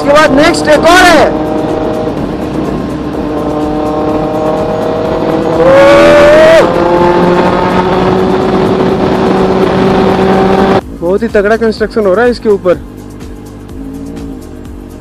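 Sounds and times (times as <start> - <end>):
motorcycle engine revving: 0.0 - 11.0, 12.8 - 15.0
wind and road hiss: 0.0 - 15.0.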